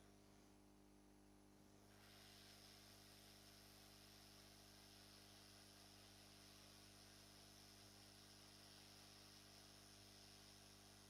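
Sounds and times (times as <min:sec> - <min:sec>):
faint steady hiss: 0:00.0 - 0:11.0
low mains hum: 0:00.0 - 0:11.0.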